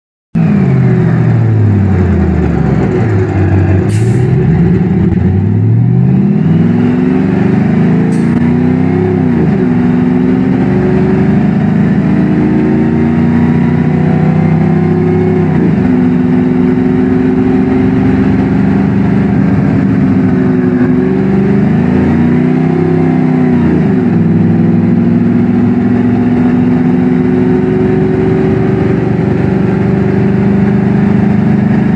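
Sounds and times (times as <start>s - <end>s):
bus engine accelerating: 0.4s - 31.9s.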